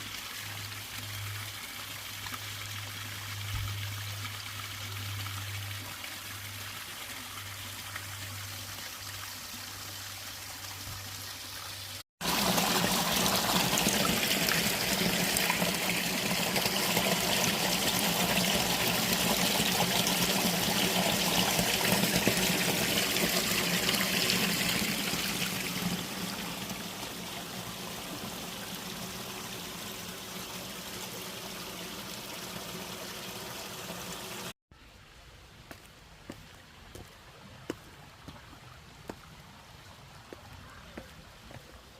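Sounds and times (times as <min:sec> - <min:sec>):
water flowing and trickling: 0:00.0 - 0:41.9.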